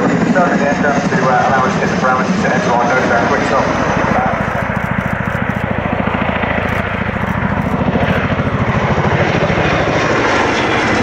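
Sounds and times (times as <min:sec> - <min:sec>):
helicopter rotor beat: 0:00.0 - 0:11.0
turbine rush: 0:01.4 - 0:11.0.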